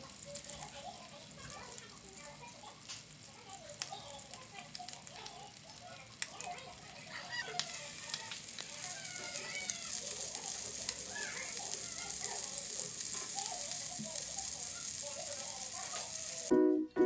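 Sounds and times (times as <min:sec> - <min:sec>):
oil sizzling in frying pan: 0:00.0 - 0:16.5.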